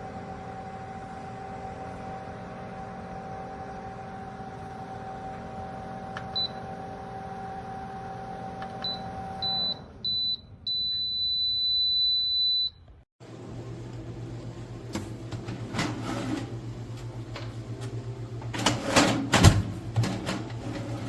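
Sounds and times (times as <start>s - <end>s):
air fryer fan humming: 0.0s - 12.4s, 13.2s - 21.0s.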